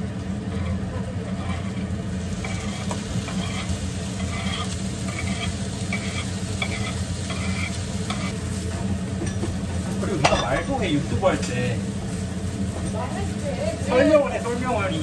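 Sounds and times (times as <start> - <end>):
steady low hum: 0.0 - 15.0
stew sizzling and bubbling: 0.0 - 15.0.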